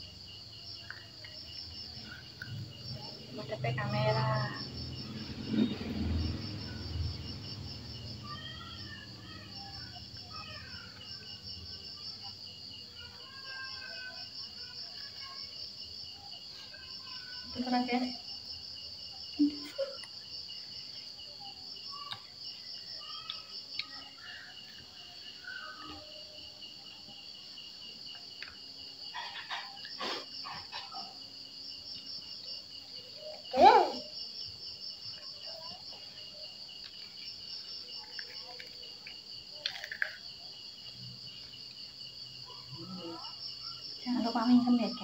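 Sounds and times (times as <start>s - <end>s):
insects trilling: 0.0s - 45.0s.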